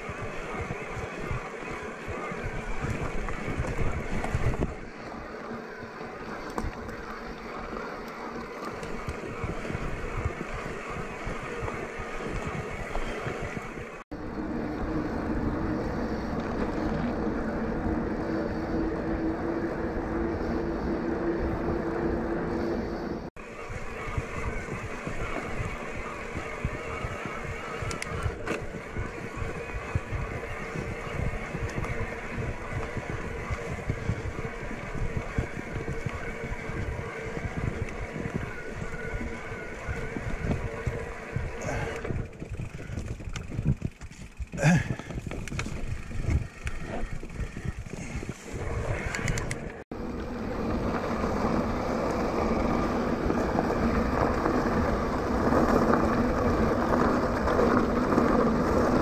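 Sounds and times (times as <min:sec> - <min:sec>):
tyres rolling on gravel: 0:00.0 - 0:22.5, 0:23.4 - 0:59.0
wind buffeting microphone: 0:00.0 - 0:59.0.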